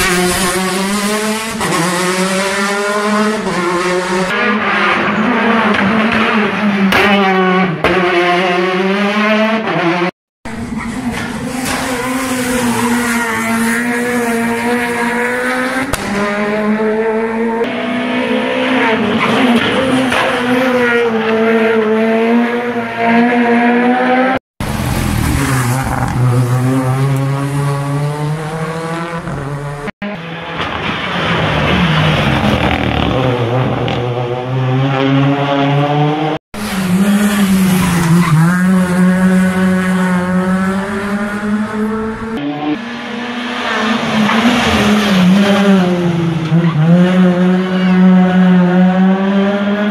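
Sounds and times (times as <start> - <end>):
rally car engines revving: 0.0 - 49.9.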